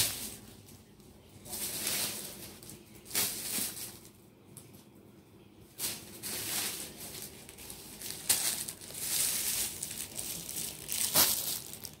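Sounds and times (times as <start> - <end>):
plastic bags crinkling: 0.0 - 4.2, 5.8 - 12.0.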